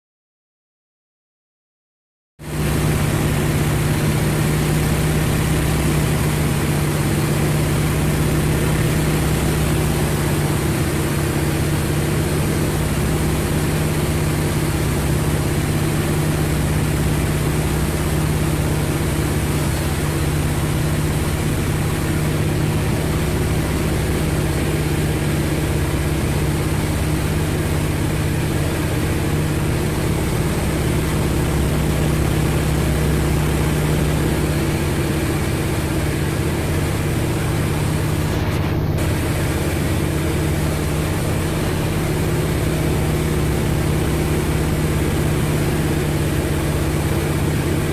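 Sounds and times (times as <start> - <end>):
propeller plane engine drone: 2.4 - 47.9.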